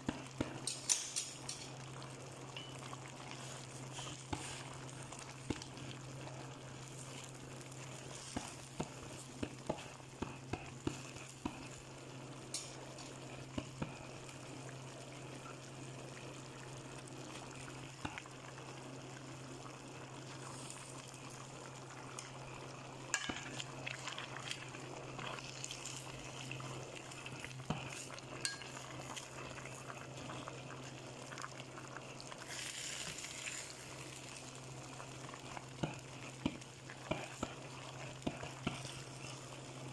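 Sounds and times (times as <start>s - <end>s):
stew bubbling in a pan: 0.0s - 39.9s.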